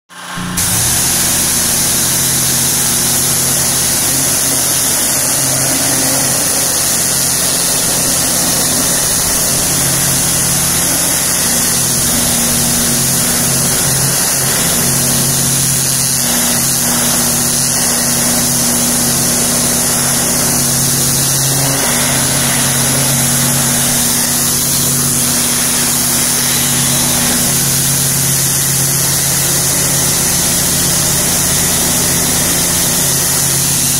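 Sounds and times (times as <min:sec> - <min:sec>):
pressure washer motor drone: 0:00.1 - 0:33.9
water jet hissing on siding: 0:00.2 - 0:33.9.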